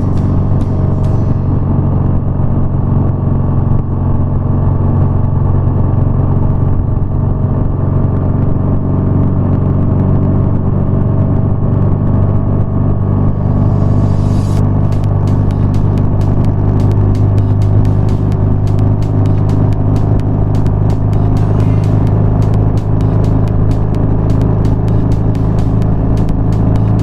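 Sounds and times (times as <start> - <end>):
motorcycle engine cruising: 0.0 - 27.0.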